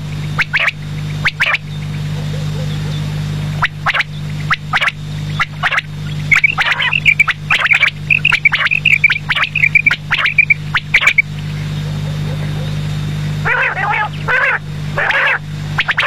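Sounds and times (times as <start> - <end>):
quail calling: 0.0 - 12.8, 13.4 - 16.0.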